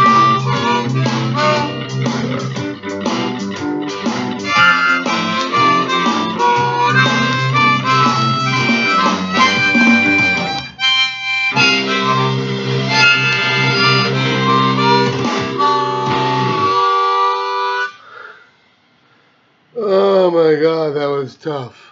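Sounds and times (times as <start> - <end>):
guitar backing track: 0.0 - 18.0
harmonica playing blues: 0.0 - 18.3.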